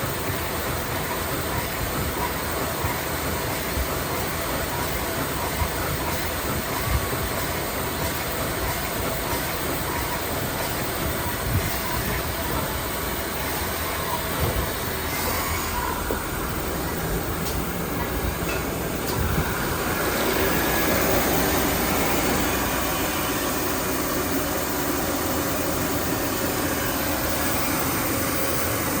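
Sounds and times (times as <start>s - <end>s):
band saw machine rumble and hiss: 0.0s - 29.0s.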